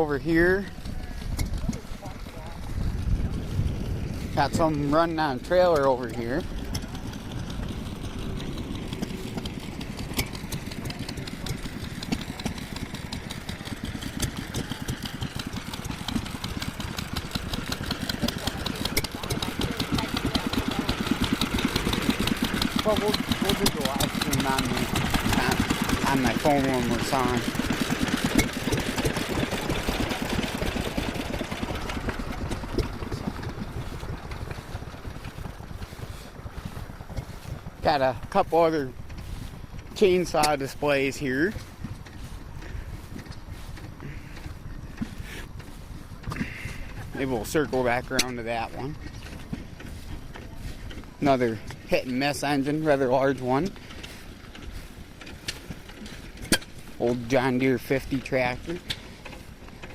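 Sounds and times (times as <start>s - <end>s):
small engines chattering: 0.0s - 59.9s.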